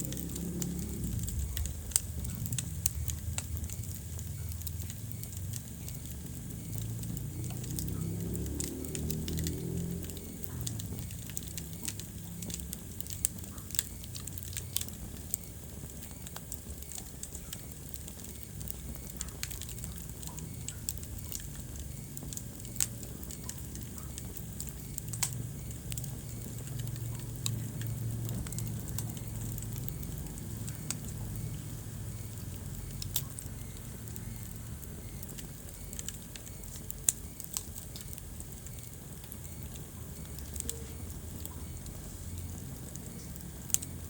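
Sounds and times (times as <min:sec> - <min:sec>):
burning logs crackling and popping: 0:00.0 - 0:44.0
fire flames rumbling: 0:00.0 - 0:44.0.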